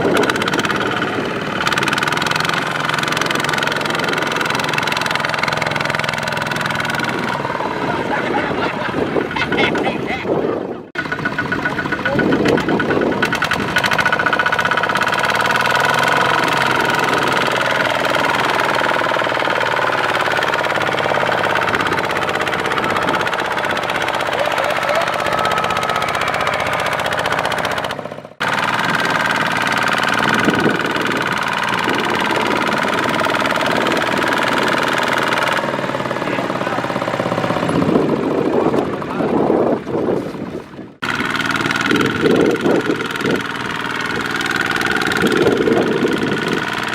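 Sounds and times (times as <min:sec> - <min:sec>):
diesel engines running hard: 0:00.0 - 0:46.9.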